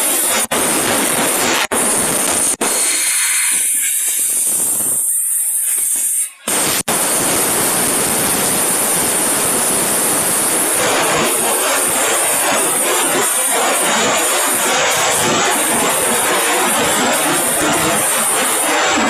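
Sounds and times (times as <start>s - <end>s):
plasma arc cutting metal: 0.0s - 19.0s
torch air hissing: 0.0s - 19.0s.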